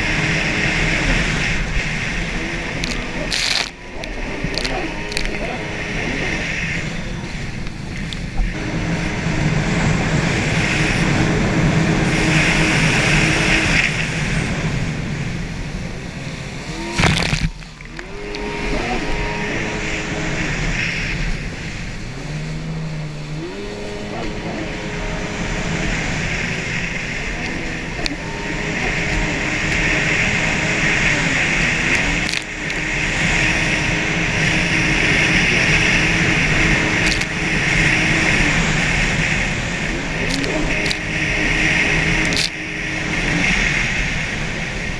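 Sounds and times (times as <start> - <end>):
jet ski engine running hard: 0.0 - 44.9
water rushing: 0.0 - 44.9
wind: 0.0 - 44.9.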